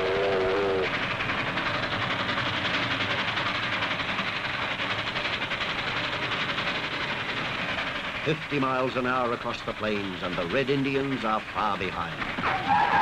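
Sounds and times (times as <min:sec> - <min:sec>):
steam locomotive running: 0:00.0 - 0:13.0.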